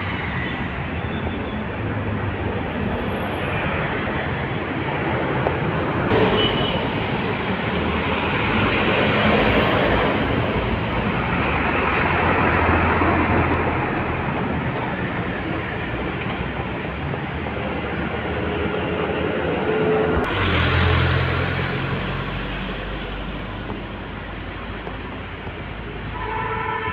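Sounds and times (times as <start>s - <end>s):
trucks and traffic passing: 0.0s - 26.9s.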